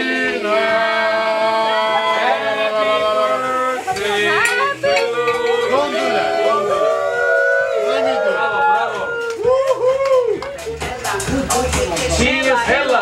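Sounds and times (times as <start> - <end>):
voices singing together: 0.0 - 9.0, 10.5 - 13.0.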